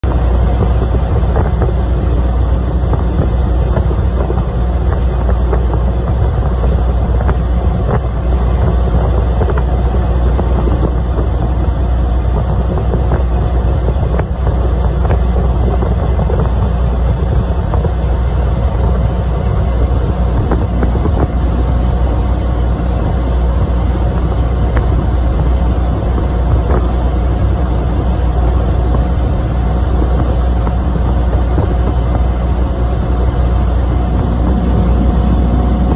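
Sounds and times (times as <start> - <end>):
motorboat engine and water: 0.0 - 35.9
wind on microphone: 0.0 - 35.9.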